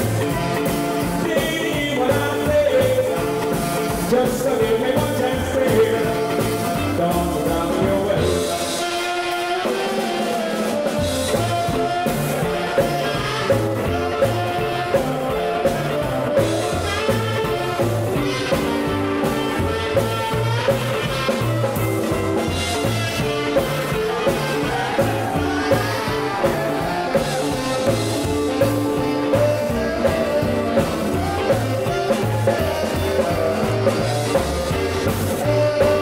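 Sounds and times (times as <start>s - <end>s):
bass guitar walking line: 0.0s - 36.0s
drum kit backbeat: 0.0s - 36.0s
electric guitars: 0.0s - 36.0s.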